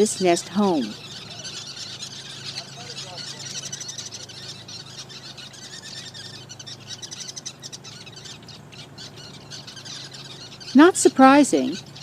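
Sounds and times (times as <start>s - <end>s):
birds chirping in chatter: 0.0s - 12.0s.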